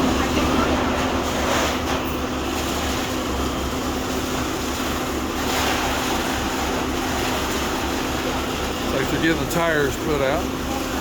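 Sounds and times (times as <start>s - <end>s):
continuous rushing noise: 0.0s - 11.0s.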